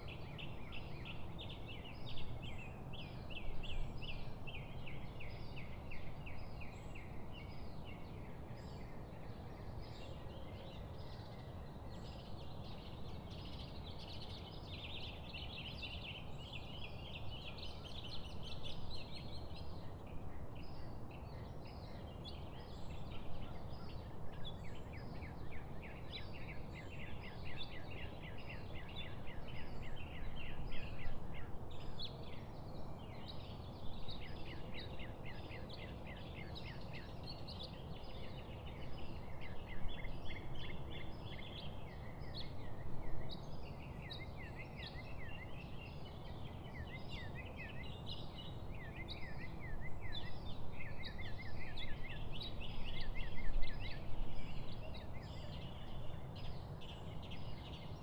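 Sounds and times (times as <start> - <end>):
small birds chirping: 8.6 - 58.0.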